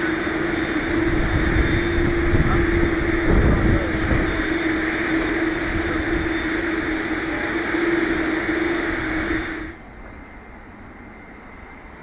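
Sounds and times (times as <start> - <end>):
jet airliner engine whine: 0.0 - 12.0.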